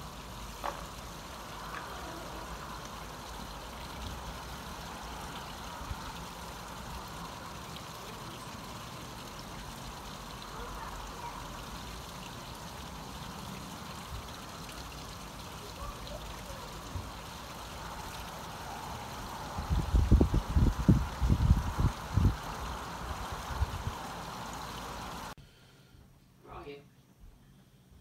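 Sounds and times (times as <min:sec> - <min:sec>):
background hiss: 0:00.0 - 0:28.0.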